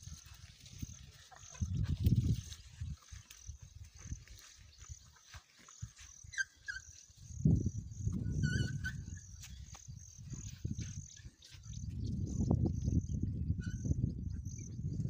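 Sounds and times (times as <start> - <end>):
insects chirping: 0.0 - 13.2.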